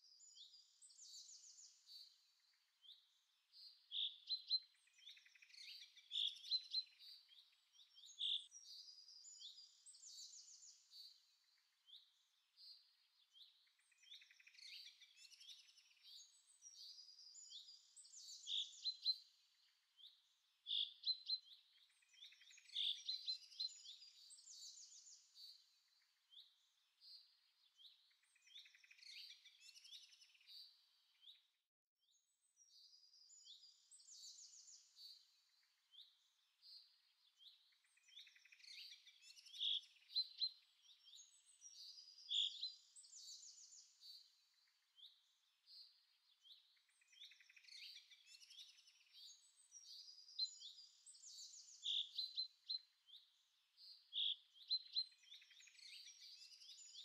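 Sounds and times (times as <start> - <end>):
faint birdsong chirps and trills: 0.0 - 57.0.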